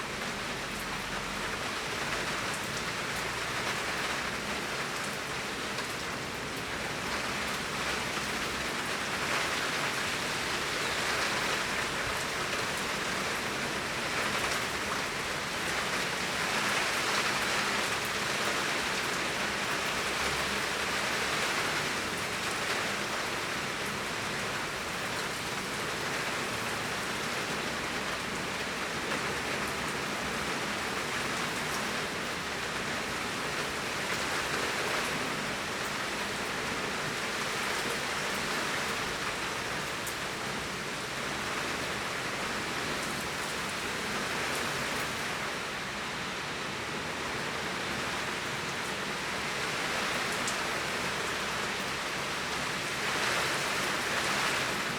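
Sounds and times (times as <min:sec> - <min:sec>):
torrential rain: 0:00.0 - 0:54.9.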